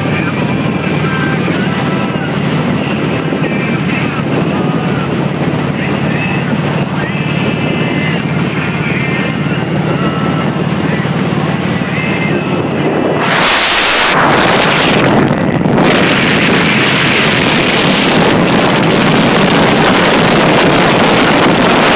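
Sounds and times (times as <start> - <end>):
motorcycle engine hum: 0.0 - 21.9
road noise: 0.0 - 21.9
wind buffeting on microphone: 0.0 - 21.9.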